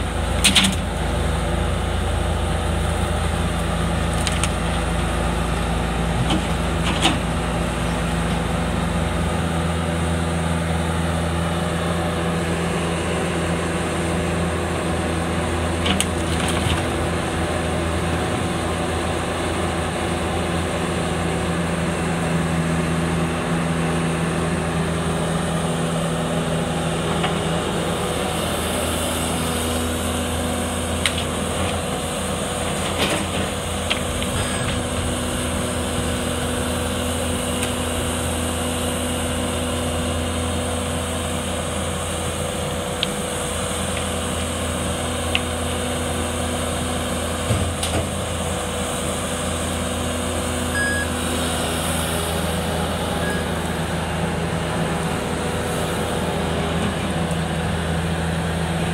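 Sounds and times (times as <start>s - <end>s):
diesel loader engine running: 0.0s - 58.9s
truck engine running: 0.0s - 58.9s.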